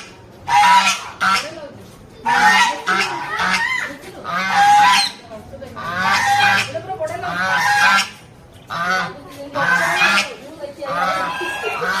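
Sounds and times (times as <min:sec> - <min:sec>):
geese honking: 0:00.0 - 0:01.6, 0:02.2 - 0:05.2, 0:05.8 - 0:12.0.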